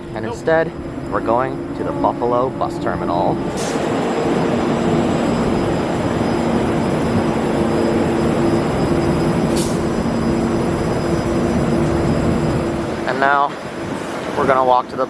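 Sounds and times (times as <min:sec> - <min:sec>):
light-rail train rumbling: 0:00.0 - 0:15.0.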